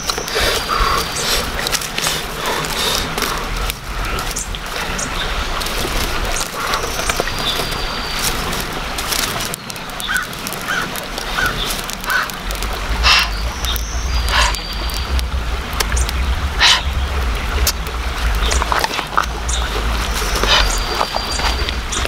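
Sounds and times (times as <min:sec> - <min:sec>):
busy outdoor background: 0:00.0 - 0:22.0.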